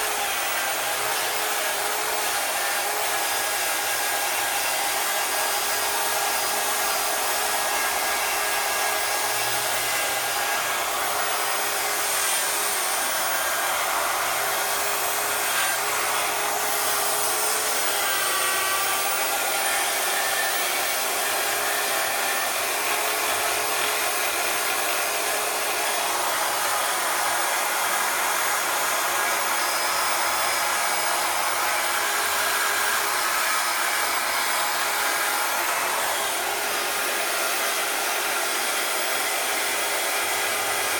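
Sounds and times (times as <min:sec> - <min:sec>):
power tool polishing metal: 0:00.0 - 0:40.9.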